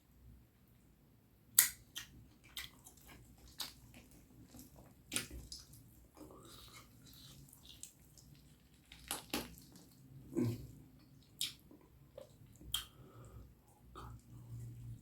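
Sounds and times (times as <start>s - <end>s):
wet eating sounds: 1.6s - 15.0s.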